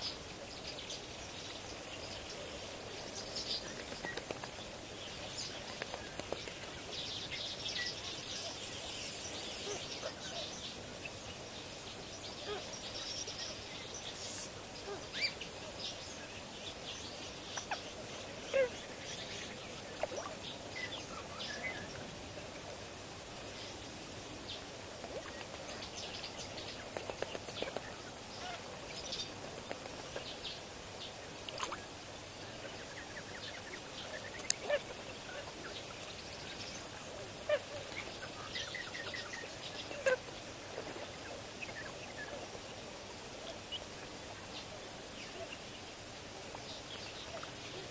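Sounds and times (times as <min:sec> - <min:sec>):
steady outdoor hiss: 0:00.0 - 0:47.9.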